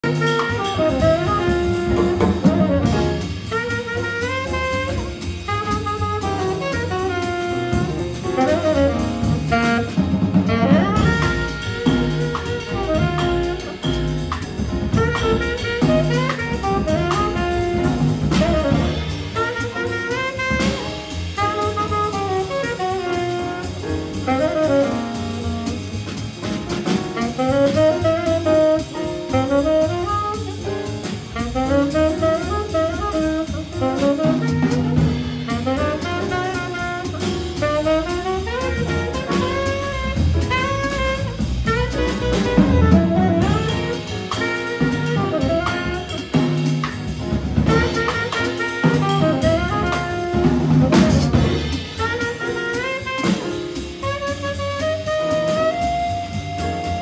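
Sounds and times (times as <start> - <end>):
drum kit with ride cymbal: 0.0 - 57.0
grand piano: 0.0 - 57.0
saxophone melody: 0.0 - 57.0
upright bass: 0.0 - 57.0.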